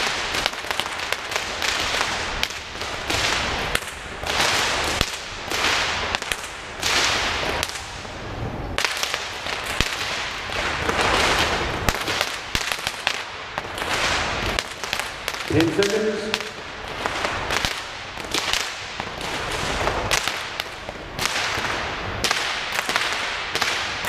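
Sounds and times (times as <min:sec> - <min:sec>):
whip cracking: 0:00.0 - 0:08.0, 0:08.8 - 0:24.0.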